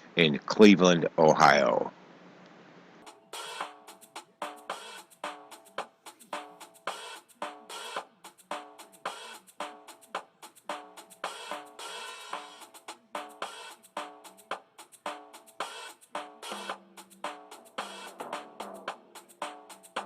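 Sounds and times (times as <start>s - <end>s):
drum kit beat: 3.0s - 20.0s
pitched instrumental notes: 3.0s - 20.0s.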